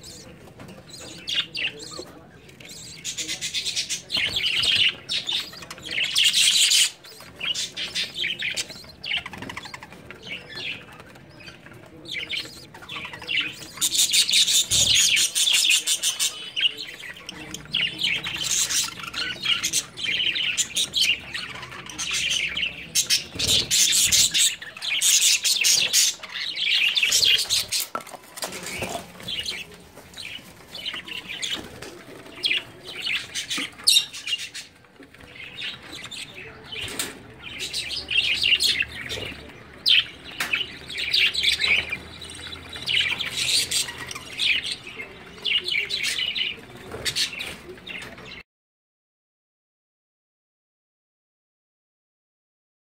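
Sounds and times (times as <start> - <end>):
budgerigars chirping: 0.0 - 27.9, 28.6 - 48.4.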